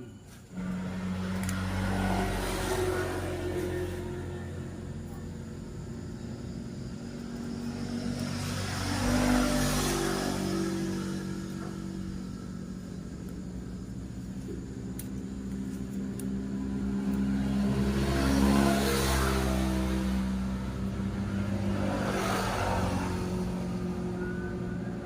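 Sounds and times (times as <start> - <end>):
scooter engine revving: 0.5 - 25.0.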